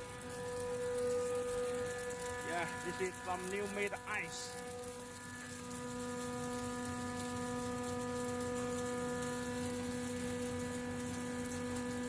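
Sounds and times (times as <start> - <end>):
ice machine humming: 0.0 - 12.0.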